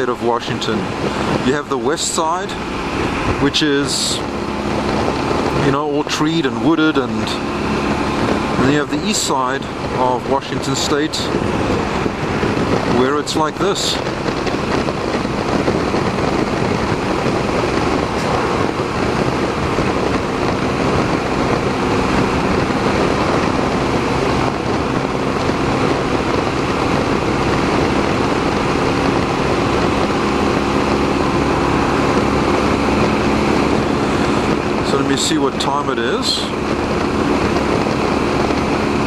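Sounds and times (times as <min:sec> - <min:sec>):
motorcycle engine drone: 0:00.0 - 0:39.0
wind rushing over microphone: 0:00.0 - 0:39.0.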